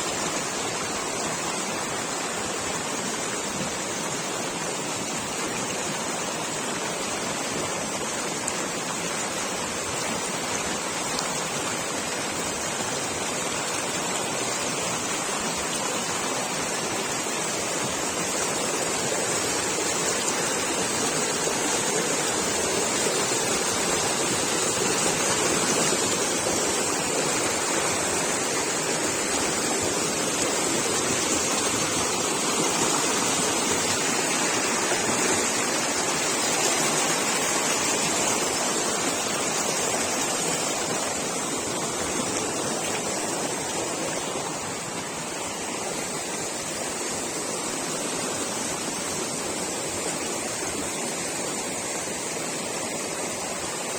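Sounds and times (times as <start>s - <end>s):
rushing water: 0.0s - 53.9s.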